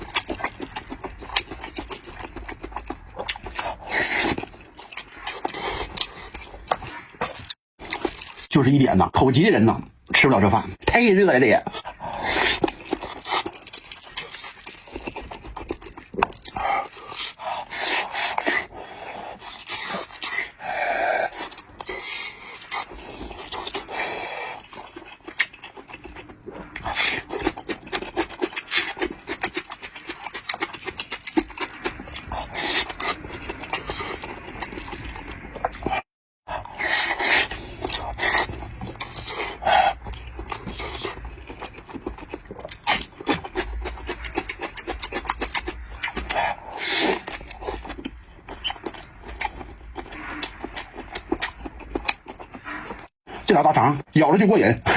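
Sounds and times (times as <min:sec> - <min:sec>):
chewing and lip smacks: 0:00.0 - 0:08.5, 0:11.6 - 0:53.5.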